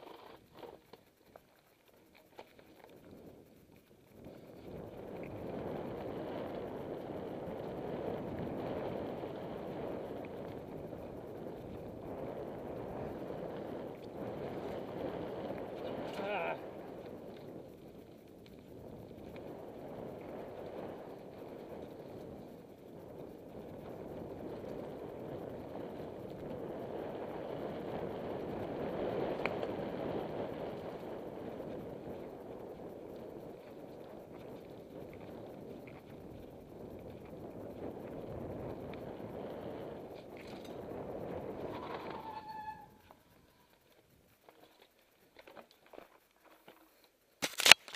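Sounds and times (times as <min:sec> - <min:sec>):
bike tyres rolling on dirt: 0:00.0 - 0:47.9
wind on microphone: 0:02.4 - 0:43.6.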